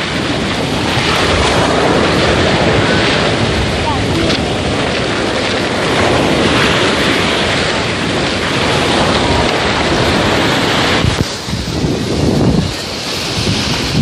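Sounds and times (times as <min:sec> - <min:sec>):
sea waves washing on beach: 0:00.0 - 0:14.0
wind noise on microphone: 0:00.0 - 0:14.0.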